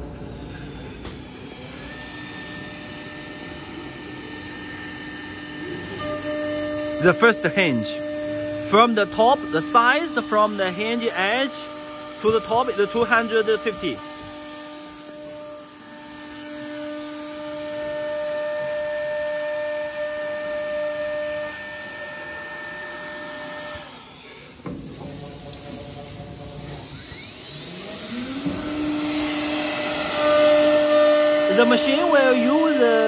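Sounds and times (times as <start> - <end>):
drilling machine cutting wood: 0.0 - 33.0
motor spinning up: 0.0 - 33.0.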